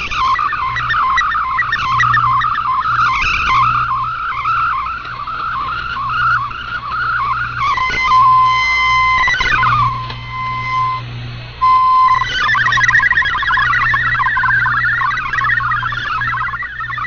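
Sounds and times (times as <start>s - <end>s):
low mains hum: 0.0s - 17.0s
warbling digital data tones: 0.0s - 17.0s.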